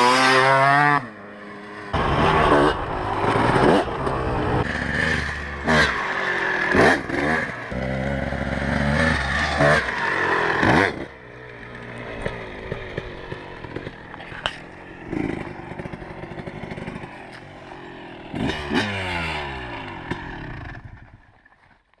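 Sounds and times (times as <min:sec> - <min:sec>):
motocross engine running: 0:01.6 - 0:21.4.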